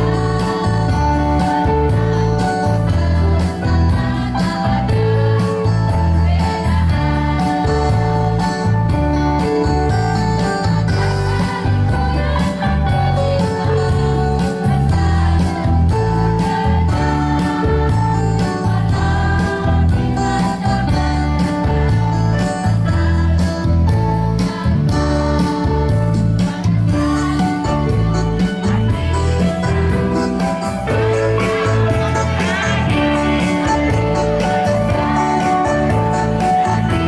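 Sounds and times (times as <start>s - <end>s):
women's choir singing: 0.0s - 8.8s, 10.7s - 23.4s, 24.4s - 36.9s
band with guitar and bass: 0.0s - 37.0s.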